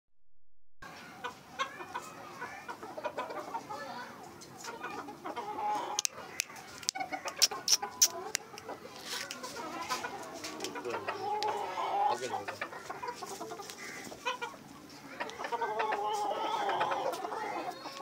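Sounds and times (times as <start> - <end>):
chickens clucking: 0.8 - 18.0.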